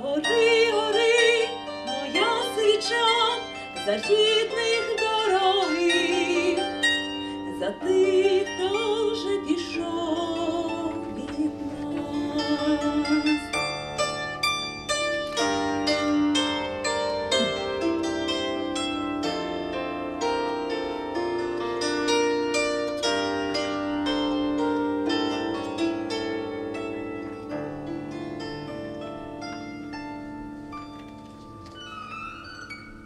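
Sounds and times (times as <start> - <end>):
plucked bandura strings: 0.0 - 33.0.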